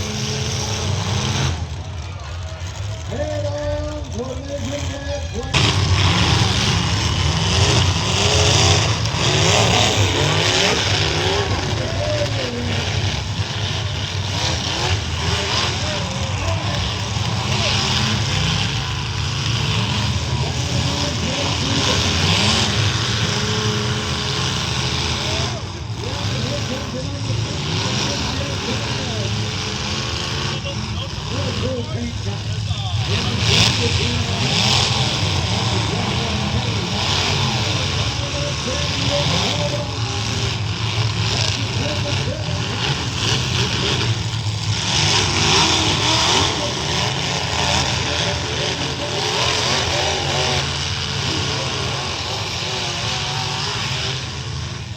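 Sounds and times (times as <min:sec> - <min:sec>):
truck engines revving: 0:00.0 - 0:54.9.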